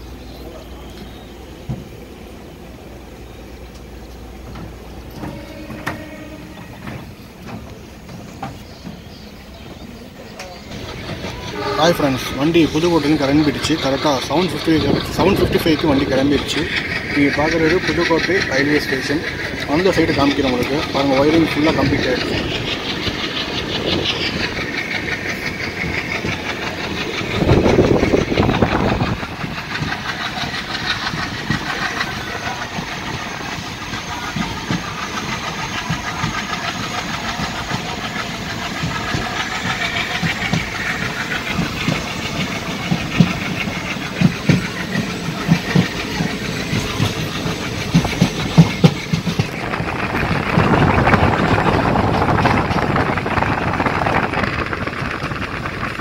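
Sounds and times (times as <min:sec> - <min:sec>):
train wheel and wind rumble: 0:00.0 - 0:56.0
wheels clacking over rail joints: 0:03.6 - 0:56.0.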